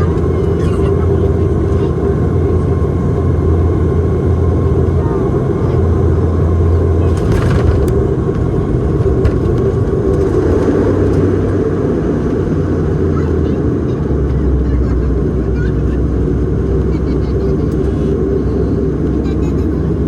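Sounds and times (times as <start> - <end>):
propeller engines droning in cabin: 0.0 - 20.0.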